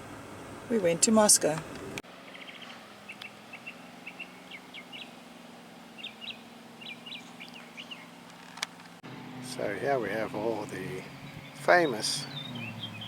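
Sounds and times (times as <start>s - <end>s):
small birds chirping: 1.8s - 13.0s.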